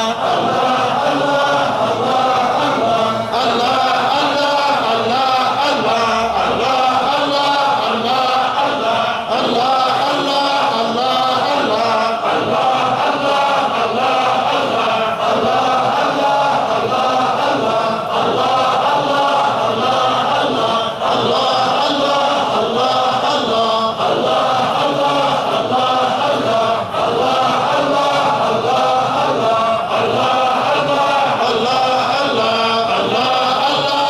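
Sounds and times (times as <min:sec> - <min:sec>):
men chanting in unison: 0:00.0 - 0:34.0.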